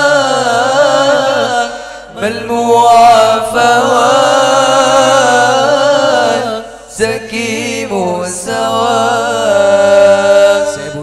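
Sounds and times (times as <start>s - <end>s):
men singing: 0.0s - 11.0s.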